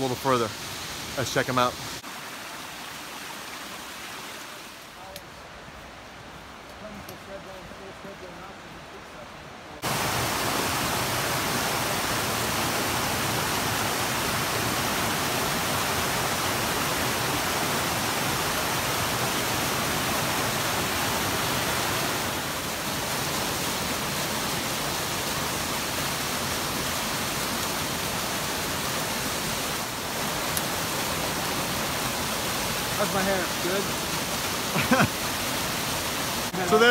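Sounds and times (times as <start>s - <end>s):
waterfall rushing: 6.8s - 36.9s.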